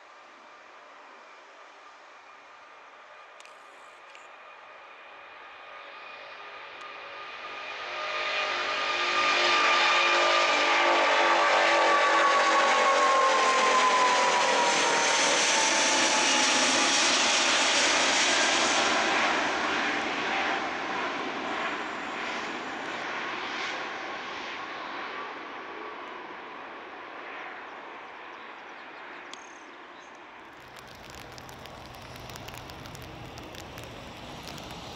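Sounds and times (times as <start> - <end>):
jet airliner passing overhead: 0.1 - 29.3, 30.5 - 34.9.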